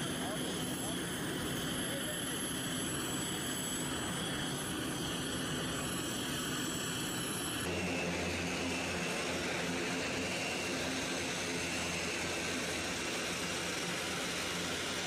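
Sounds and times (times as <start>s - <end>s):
turboprop engines running: 0.0s - 15.0s.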